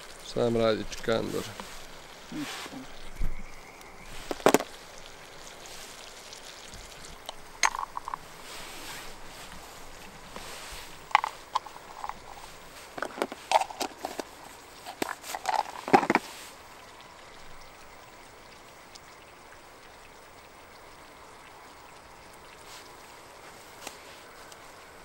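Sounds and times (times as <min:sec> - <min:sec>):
faint steady hiss: 0:00.0 - 0:25.0.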